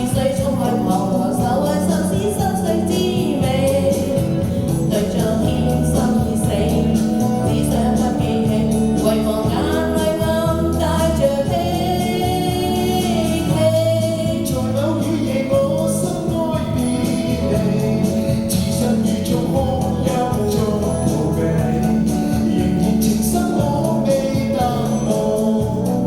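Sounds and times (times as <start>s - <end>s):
pop ballad with singing: 0.0s - 26.0s.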